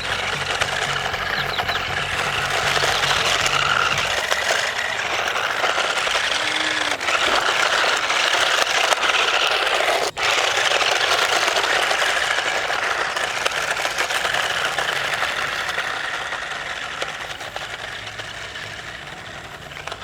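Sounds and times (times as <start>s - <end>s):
plastic rattling: 0.0s - 20.0s
toy car motors whirring: 0.0s - 20.0s.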